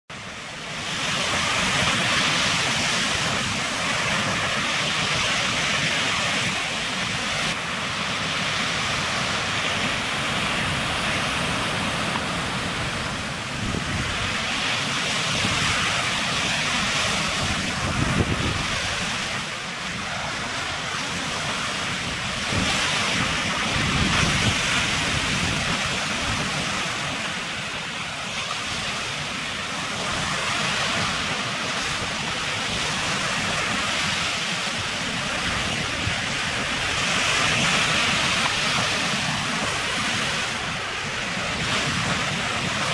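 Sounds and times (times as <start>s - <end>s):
waves breaking on beach: 0.1s - 42.9s
wind buffeting microphone: 0.3s - 42.9s.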